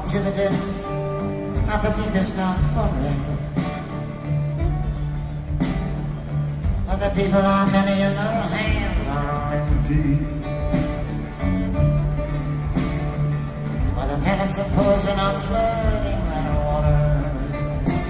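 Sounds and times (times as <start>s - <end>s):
bass notes: 0.0s - 18.0s
strummed acoustic guitar: 0.0s - 18.0s.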